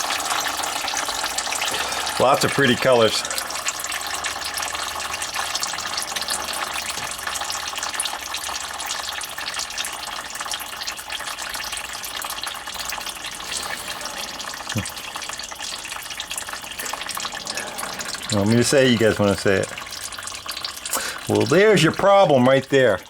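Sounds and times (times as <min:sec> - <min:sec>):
oil draining into a pan: 0:00.0 - 0:23.0.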